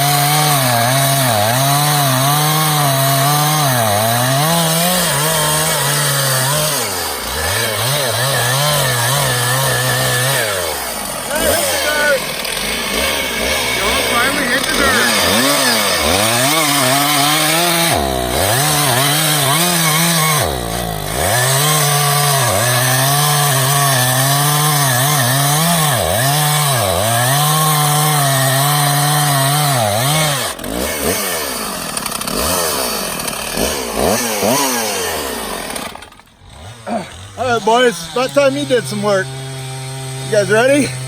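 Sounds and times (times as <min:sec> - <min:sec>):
chainsaw cutting logs: 0:00.0 - 0:41.0.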